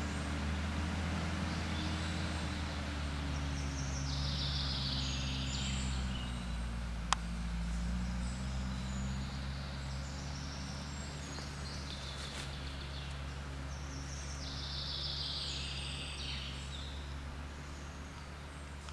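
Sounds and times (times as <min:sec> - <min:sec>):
birdsong: 0:00.0 - 0:18.9
truck engine running low: 0:00.0 - 0:18.9.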